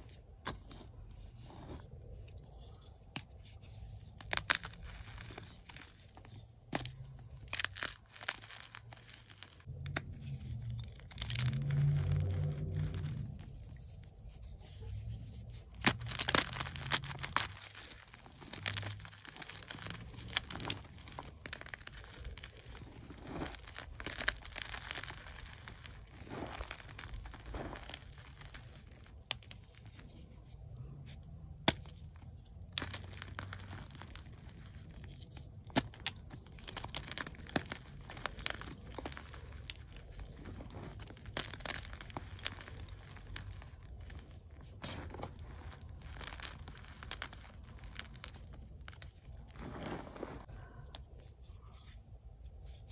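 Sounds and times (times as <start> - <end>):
chalk crunching by hand: 0.6 - 52.0.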